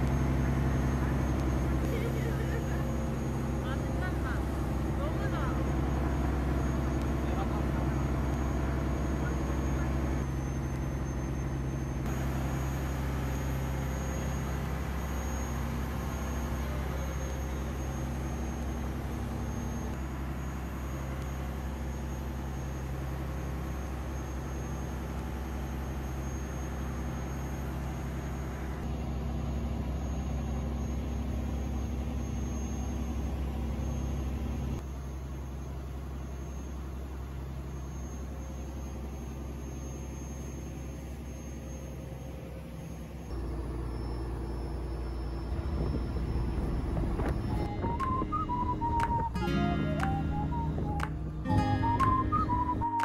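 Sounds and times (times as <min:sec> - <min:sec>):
boat engine drone: 0:00.0 - 0:53.0
wind: 0:00.0 - 0:53.0.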